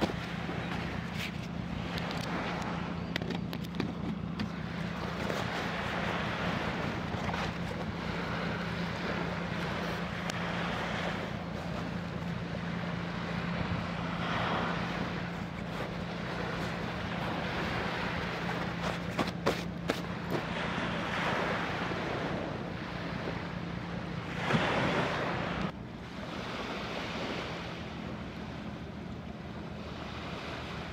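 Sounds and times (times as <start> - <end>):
low engine drone: 0.0 - 30.9
waves washing on sandy beach: 3.6 - 30.9.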